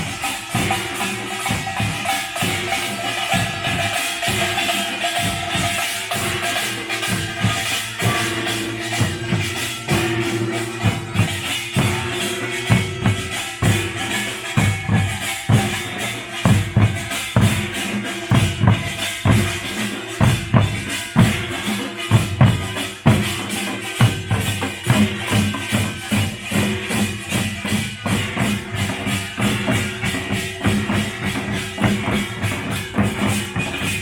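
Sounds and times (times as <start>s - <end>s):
drums beating driving rhythm: 0.0s - 34.0s.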